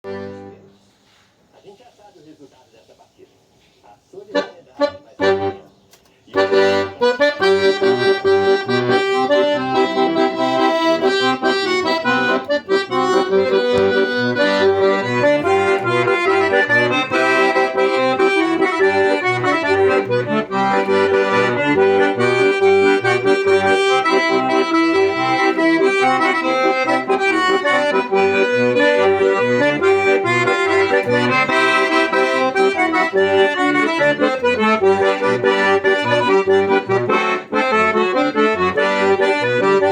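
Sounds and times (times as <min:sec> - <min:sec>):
accordion playing lively tune: 0:00.0 - 0:00.7, 0:04.3 - 0:05.7, 0:06.3 - 0:39.9.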